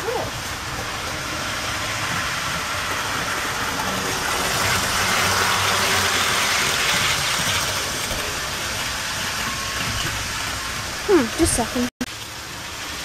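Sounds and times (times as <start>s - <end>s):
model train motors whirring: 0.0s - 13.0s
wheels running on rails: 0.0s - 13.0s.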